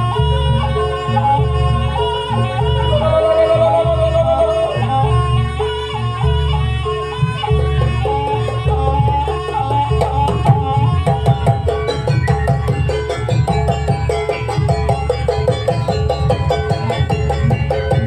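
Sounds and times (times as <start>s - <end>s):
traditional dance melody: 0.0s - 18.0s.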